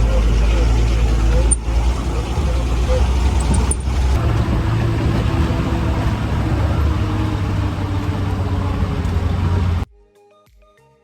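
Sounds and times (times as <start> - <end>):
vehicle road noise rumble: 0.0 - 9.9.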